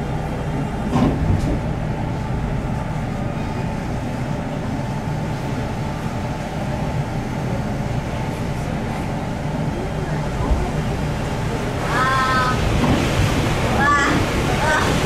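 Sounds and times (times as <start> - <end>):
train passing close by: 0.0 - 15.0.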